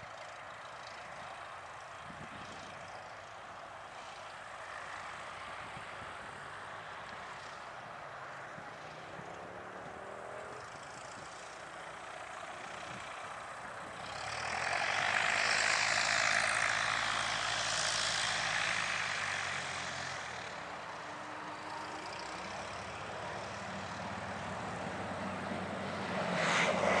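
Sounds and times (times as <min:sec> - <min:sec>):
light aircraft engine and propeller: 0:00.0 - 0:27.0.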